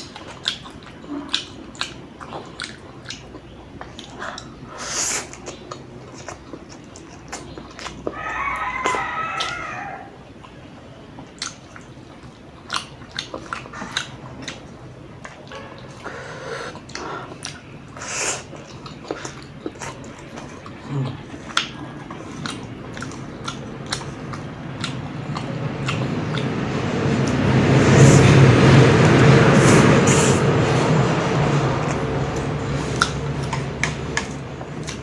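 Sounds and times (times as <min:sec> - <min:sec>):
chewing with wet smacks: 0:00.0 - 0:28.0, 0:28.6 - 0:35.0.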